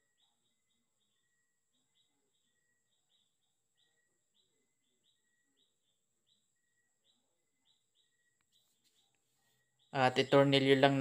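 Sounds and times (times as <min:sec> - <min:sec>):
faint high chirp: 0:00.0 - 0:11.0.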